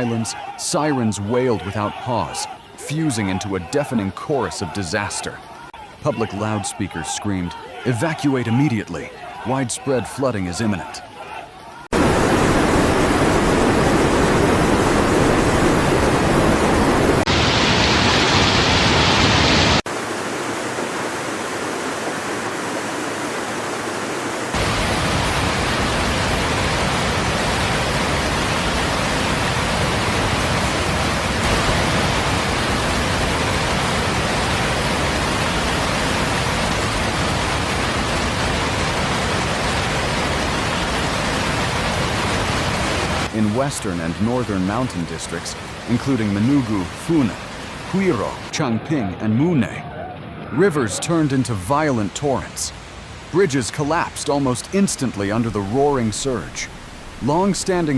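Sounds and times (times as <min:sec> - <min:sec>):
heavy water rushing: 0:00.0 - 0:57.9.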